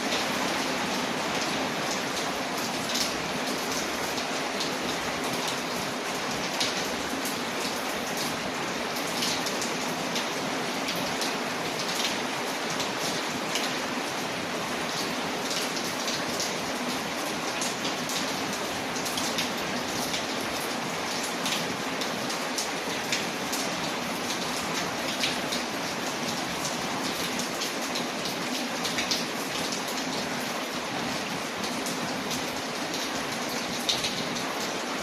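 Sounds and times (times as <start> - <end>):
rain on a window: 0.0 - 35.0.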